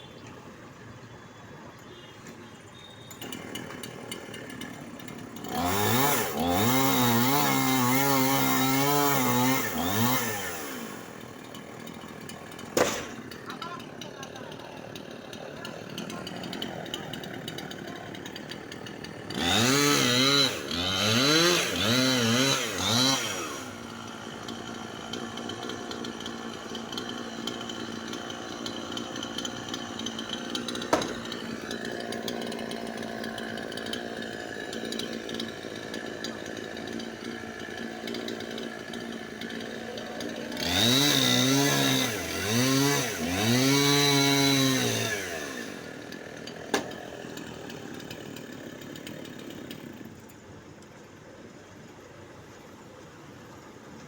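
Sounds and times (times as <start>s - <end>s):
chainsaw idling and revving: 2.8s - 51.4s.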